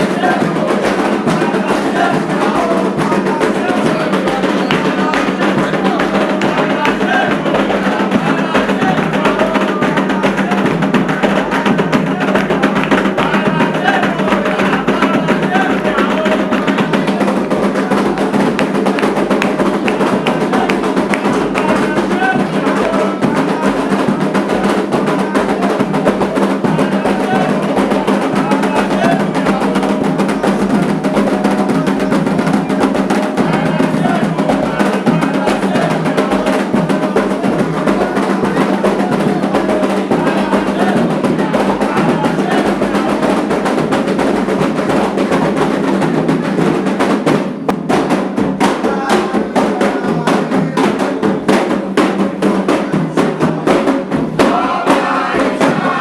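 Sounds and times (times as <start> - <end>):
fast hand drumming: 0.0 - 56.0
voices singing: 0.0 - 56.0.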